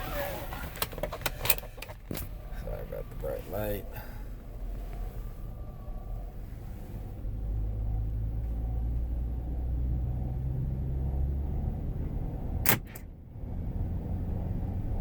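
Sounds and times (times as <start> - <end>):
car engine drone inside cabin: 0.0 - 15.0.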